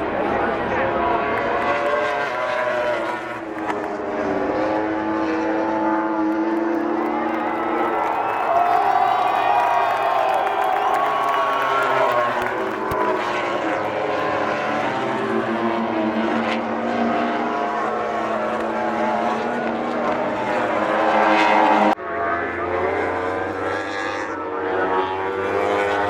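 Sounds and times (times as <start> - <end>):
race motorcycle engines revving: 0.0 - 26.0.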